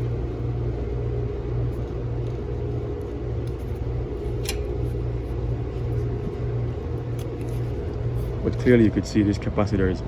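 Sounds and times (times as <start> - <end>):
pulsing machine hum: 0.0 - 10.0.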